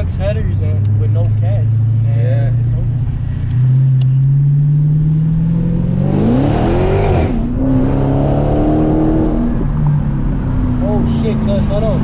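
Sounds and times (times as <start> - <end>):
loud car engine revving: 0.6 - 12.0.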